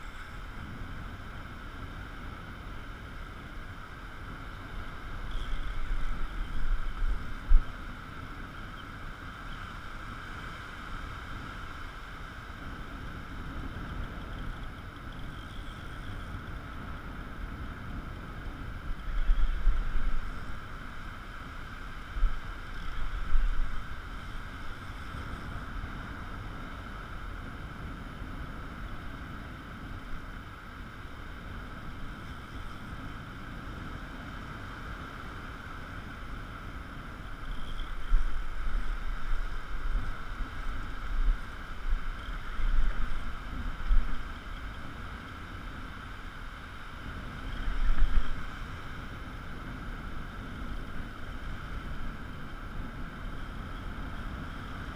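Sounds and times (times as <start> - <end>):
wind buffeting the microphone: 0.0 - 54.9.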